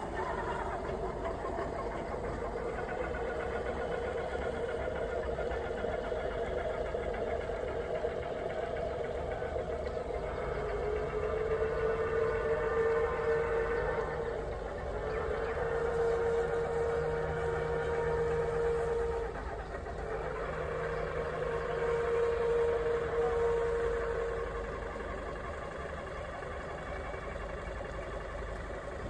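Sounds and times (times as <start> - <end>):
model steam boat droning: 0.0 - 29.0.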